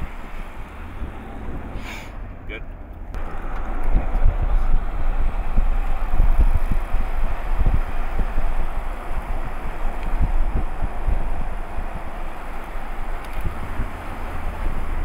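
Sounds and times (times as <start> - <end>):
wind buffeting microphone: 0.0 - 2.4, 3.1 - 15.0
vehicle road noise: 0.0 - 15.0.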